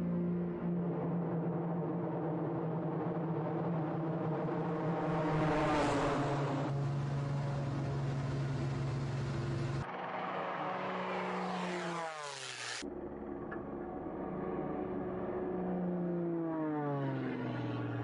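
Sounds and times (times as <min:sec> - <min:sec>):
propeller plane engine: 0:00.0 - 0:18.0
propeller plane passing by: 0:00.0 - 0:18.0.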